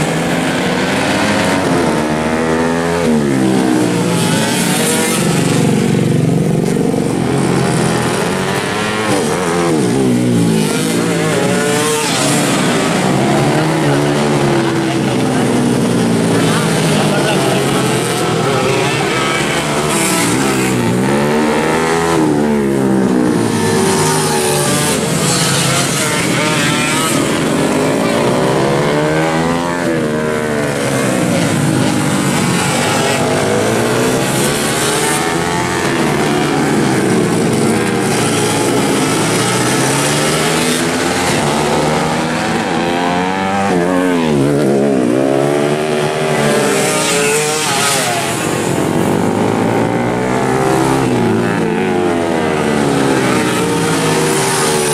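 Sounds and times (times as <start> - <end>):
motorcycles revving past: 0.0 - 54.9.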